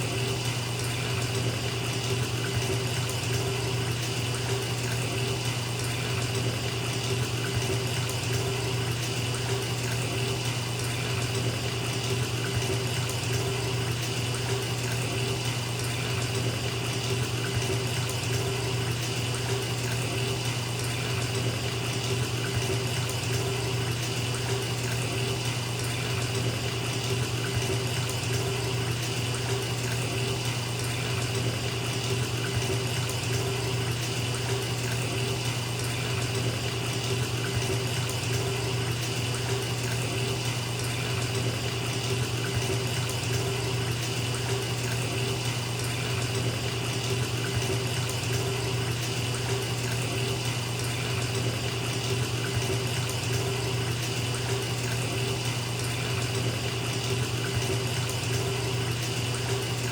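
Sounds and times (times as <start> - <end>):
water running from bathtub tap: 0.0 - 59.9.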